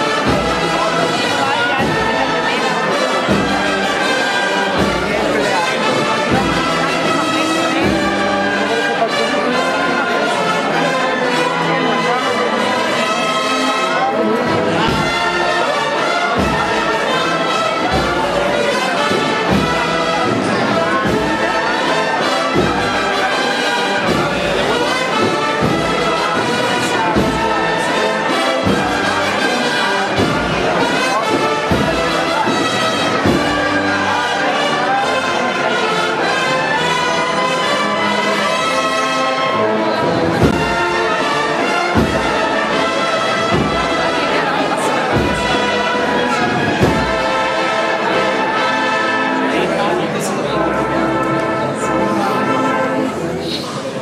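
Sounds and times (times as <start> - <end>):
drum beats: 0.0 - 12.2, 12.9 - 53.7
brass band march: 0.0 - 54.0.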